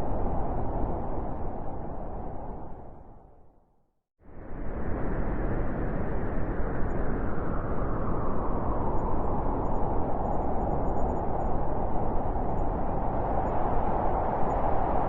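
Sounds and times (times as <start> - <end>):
blizzard wind through forest: 0.0 - 15.0.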